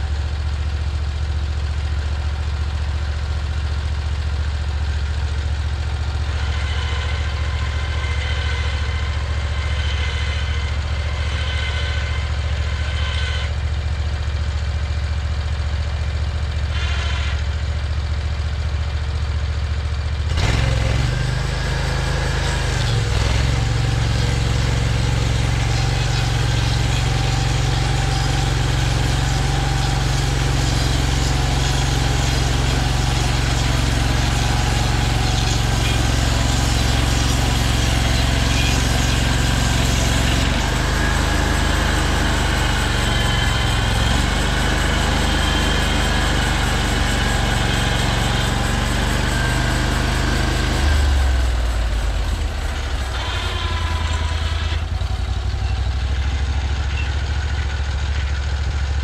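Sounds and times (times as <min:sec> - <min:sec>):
sawmill engine idling and revving: 0:00.0 - 0:59.0.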